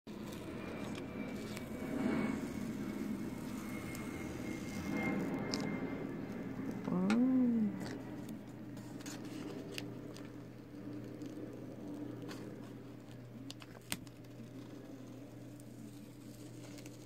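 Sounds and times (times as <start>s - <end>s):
tape peeling off paper: 0.1s - 6.4s, 8.2s - 17.0s
low steady background hum: 0.1s - 17.0s.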